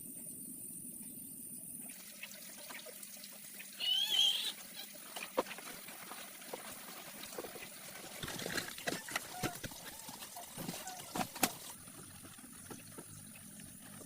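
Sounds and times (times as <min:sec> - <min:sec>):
water trickling and dripping: 0:01.8 - 0:14.0.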